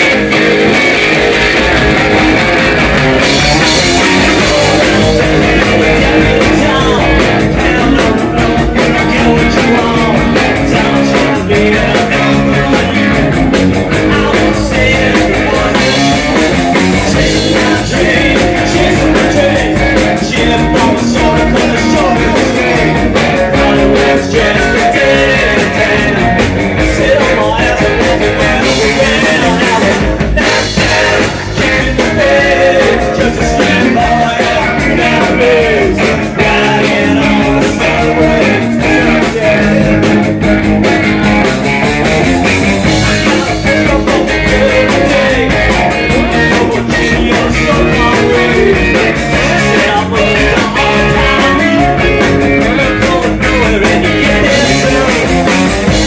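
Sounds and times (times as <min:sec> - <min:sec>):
bass guitar: 0:00.0 - 0:56.0
drums and cymbals: 0:00.0 - 0:56.0
electric guitars: 0:00.0 - 0:56.0
man singing: 0:03.2 - 0:40.4, 0:42.8 - 0:56.0.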